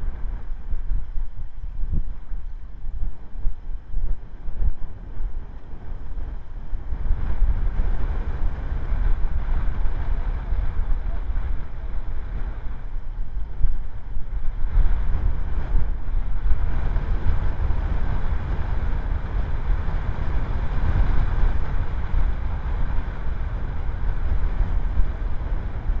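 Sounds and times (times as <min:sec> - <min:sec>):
gusty wind on microphone: 0:00.0 - 0:26.0.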